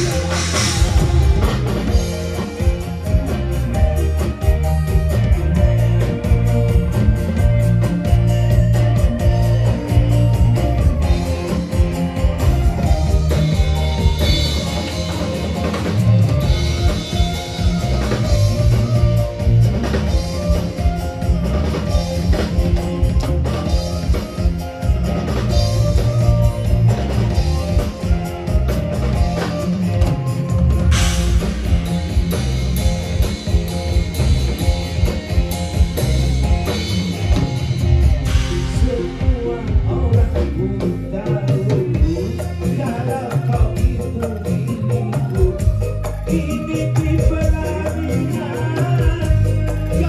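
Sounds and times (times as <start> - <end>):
live band playing instrumental: 0.0 - 50.0.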